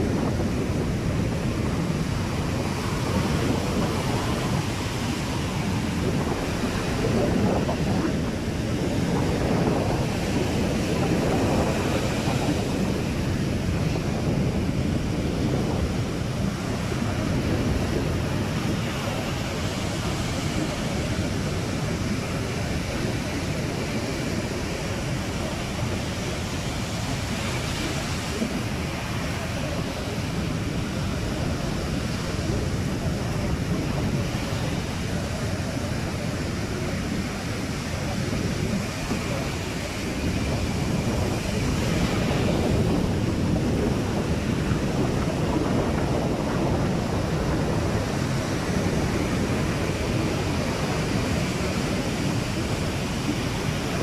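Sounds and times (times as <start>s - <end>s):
ocean surf on sandy beach: 0.0s - 54.0s
wind buffeting microphone: 0.0s - 54.0s.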